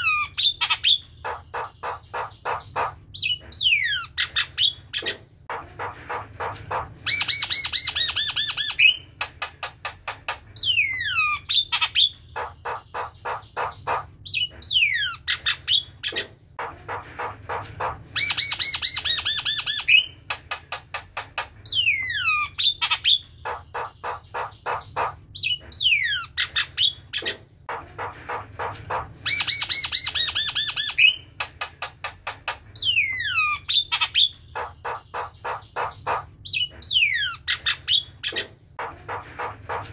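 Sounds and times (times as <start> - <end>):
bird singing and chattering: 0.0 - 39.9.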